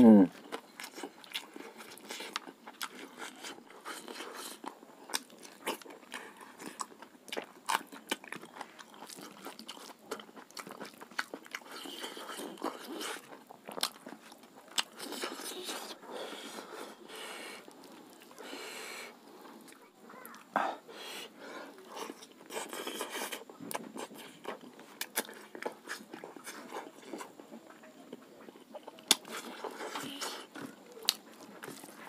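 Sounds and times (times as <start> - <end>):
person chewing with crunching bites: 0.0 - 32.0.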